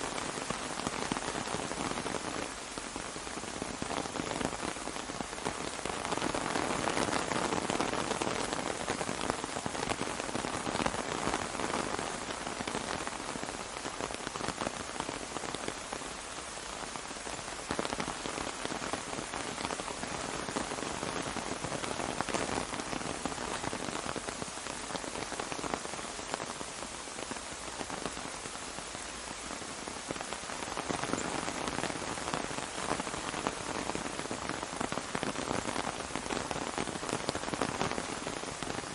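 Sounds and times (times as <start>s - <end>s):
rain falling on an umbrella: 0.0s - 38.9s.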